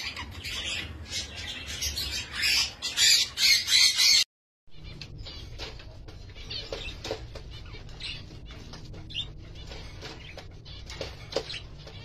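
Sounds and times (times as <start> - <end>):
budgerigars chirping: 0.0 - 4.2, 4.8 - 12.0.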